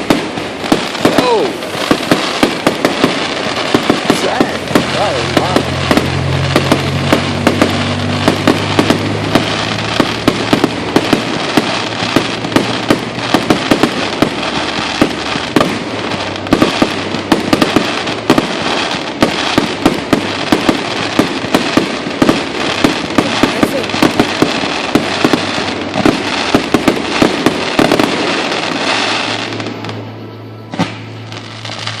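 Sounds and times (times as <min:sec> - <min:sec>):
fireworks bangs and pops: 0:00.0 - 0:32.0
fireworks crackle: 0:00.0 - 0:32.0.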